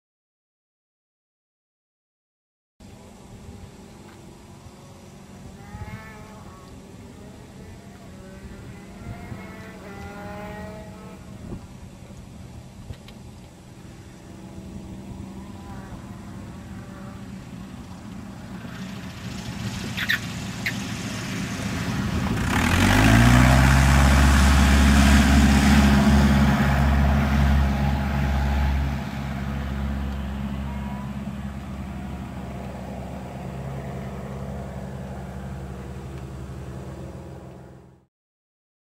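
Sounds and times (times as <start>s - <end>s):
light aircraft engine drone: 2.8s - 38.1s.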